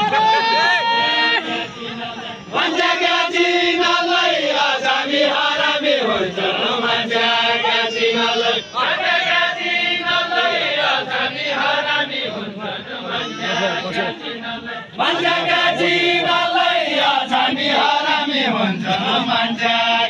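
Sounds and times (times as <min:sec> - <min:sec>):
voices singing folk song chant: 0:00.0 - 0:20.0.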